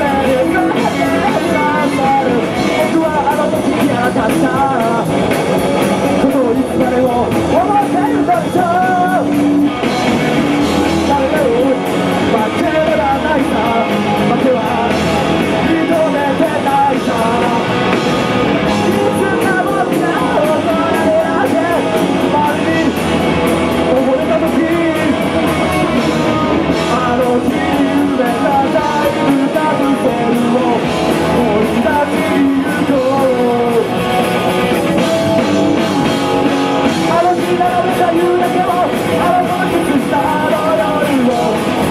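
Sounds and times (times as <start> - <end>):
person singing: 0.0 - 41.9
punk rock band playing: 0.0 - 41.9.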